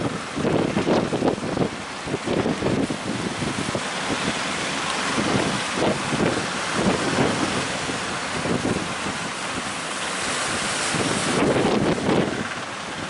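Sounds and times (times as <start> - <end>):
rough sea rushing: 0.0 - 13.0
wind buffeting microphone: 0.0 - 13.0.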